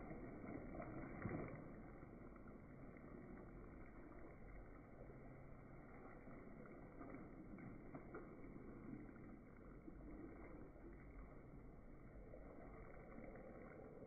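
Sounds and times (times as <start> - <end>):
steady low sizzling hiss: 0.0 - 14.0.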